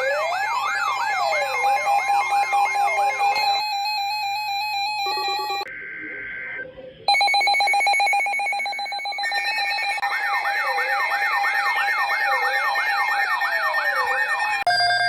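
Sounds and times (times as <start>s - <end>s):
rapidly pulsing alert tone: 0.0s - 5.7s, 7.1s - 15.0s
siren-like yelp: 0.0s - 15.0s.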